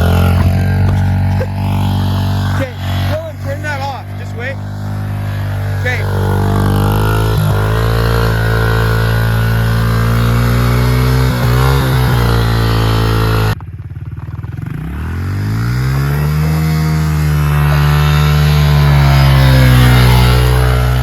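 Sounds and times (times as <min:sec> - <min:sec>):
small motor running: 0:00.0 - 0:13.6, 0:14.7 - 0:21.0.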